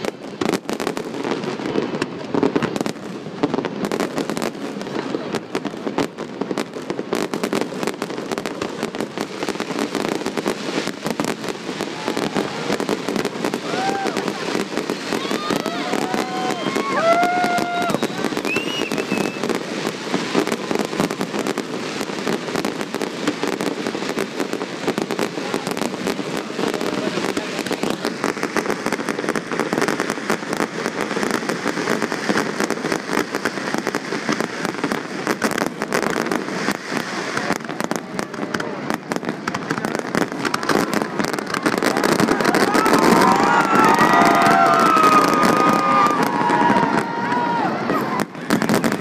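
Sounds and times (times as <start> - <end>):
fireworks popping and banging: 0.0 - 49.0.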